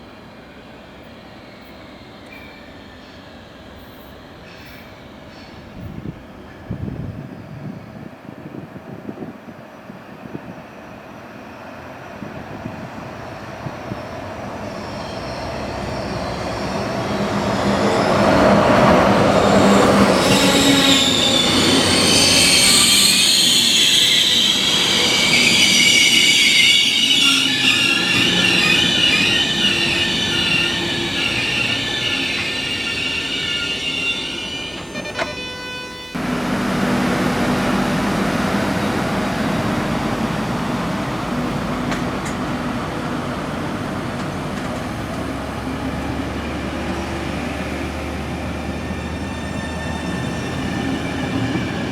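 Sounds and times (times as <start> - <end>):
train approaching: 0.0 - 51.9
train brakes squealing: 0.0 - 51.9.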